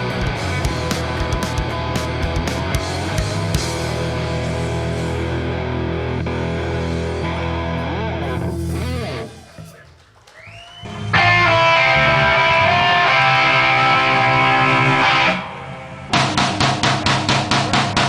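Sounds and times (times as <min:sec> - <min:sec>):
electric guitar chords: 0:00.0 - 0:09.4, 0:10.9 - 0:18.0
guitar sliding notes: 0:00.0 - 0:09.8, 0:11.1 - 0:16.4.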